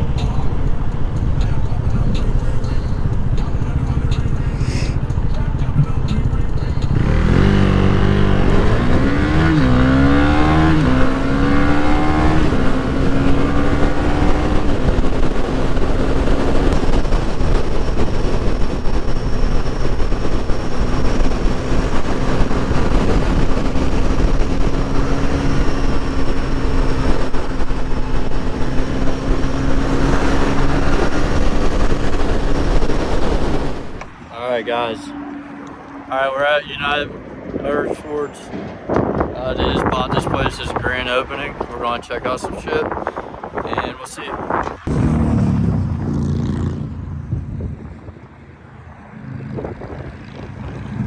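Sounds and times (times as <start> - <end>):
motorcycle engine accelerating: 0.0 - 34.2, 39.0 - 51.0
wind rushing over microphone: 0.0 - 51.0.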